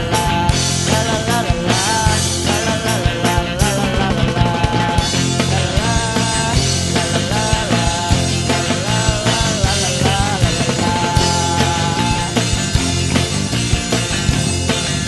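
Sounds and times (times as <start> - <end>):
grunge rock band playing: 0.0 - 15.0.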